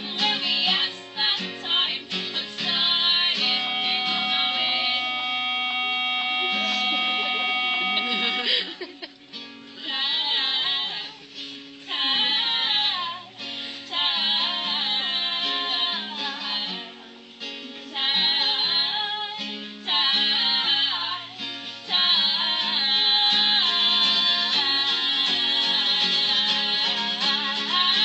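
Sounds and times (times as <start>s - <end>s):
women singing: 0.0s - 8.8s, 9.8s - 28.0s
strummed acoustic guitar: 0.0s - 28.0s.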